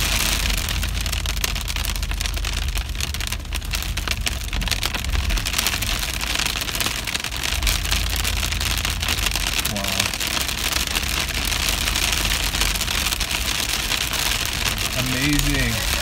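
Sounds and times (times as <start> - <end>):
hail pelting a car roof: 0.0 - 16.0
vehicle driving rumble: 0.0 - 16.0.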